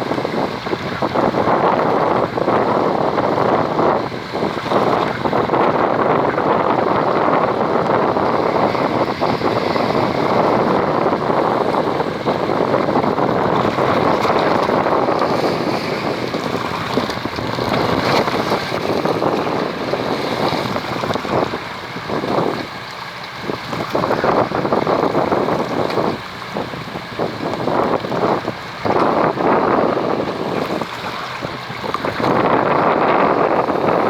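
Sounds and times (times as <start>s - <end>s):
wind and water noise: 0.0s - 34.0s
wind buffeting microphone: 0.0s - 34.0s.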